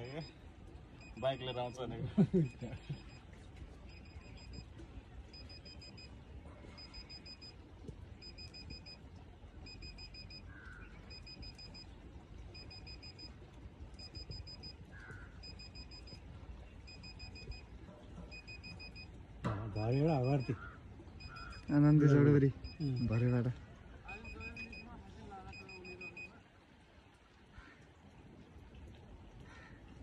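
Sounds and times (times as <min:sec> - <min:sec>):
satellite meter beeping: 0:00.0 - 0:26.4.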